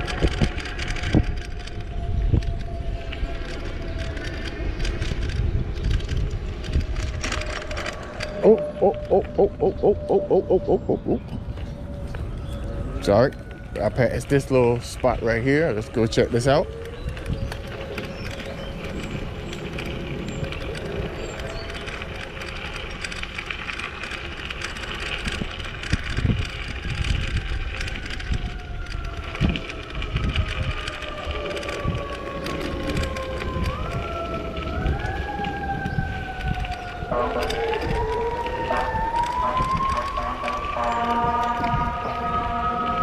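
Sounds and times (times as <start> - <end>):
siren: 0.0 - 43.0
wind on microphone: 0.0 - 43.0.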